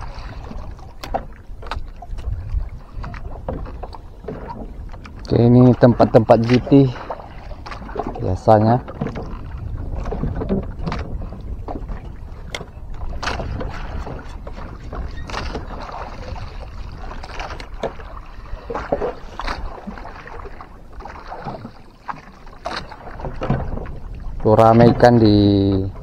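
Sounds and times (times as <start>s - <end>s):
water slapping against boat hull: 0.0s - 26.0s.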